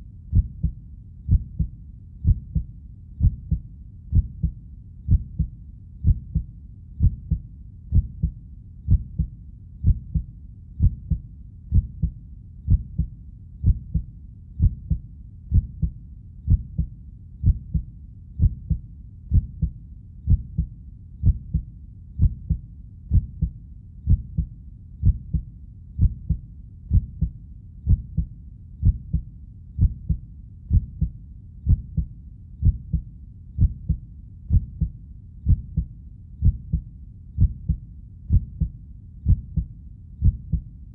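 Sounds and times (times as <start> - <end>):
heartbeat double thump: 0.3 - 14.0, 14.6 - 21.6, 22.2 - 23.5, 24.1 - 25.4, 26.0 - 27.3, 27.9 - 29.2, 29.8 - 31.1, 31.7 - 33.0, 33.6 - 34.9, 35.5 - 36.8, 37.4 - 38.7, 39.3 - 40.6.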